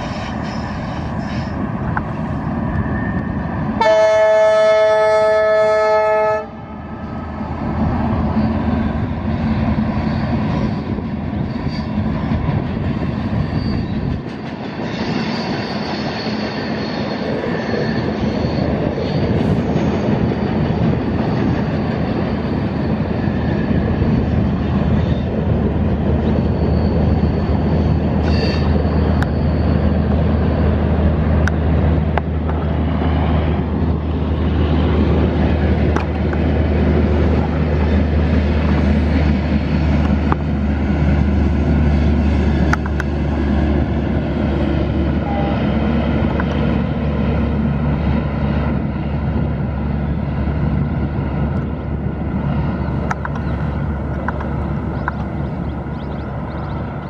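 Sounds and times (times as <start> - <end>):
diesel locomotive engine drone: 0.0 - 57.0
train coaches running on track: 0.0 - 57.0.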